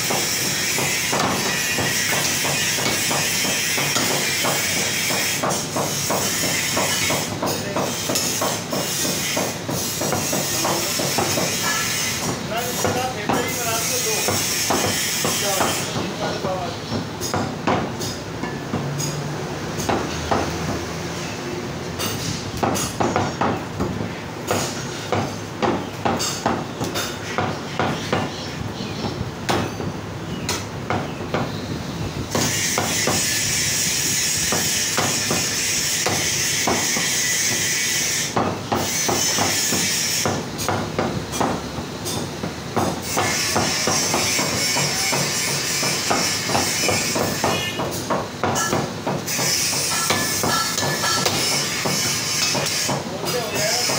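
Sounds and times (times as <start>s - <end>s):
cleavers chopping on wood blocks: 0.0s - 19.0s, 19.8s - 20.9s, 22.0s - 28.4s, 29.0s - 29.9s, 30.5s - 31.6s, 32.3s - 33.4s, 34.5s - 53.9s.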